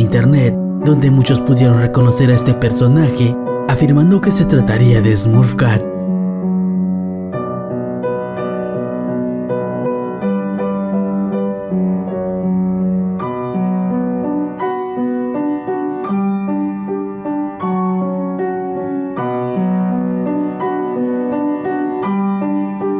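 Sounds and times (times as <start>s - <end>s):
slow keyboard music: 0.0s - 22.9s.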